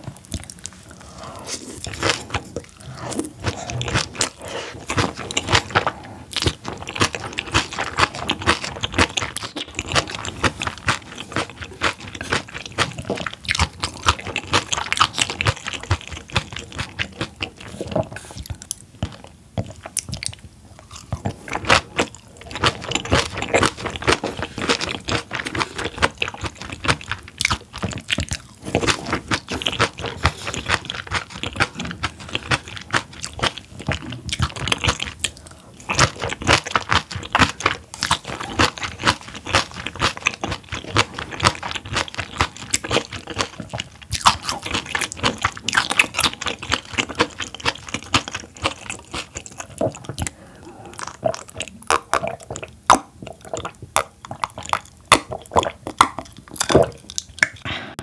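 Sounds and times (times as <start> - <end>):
wet chewing and crunchy bites: 0.0 - 57.7.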